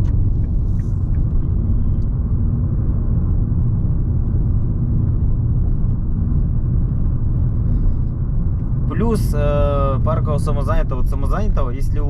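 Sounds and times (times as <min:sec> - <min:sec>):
car interior engine and tyre rumble: 0:00.0 - 0:12.0.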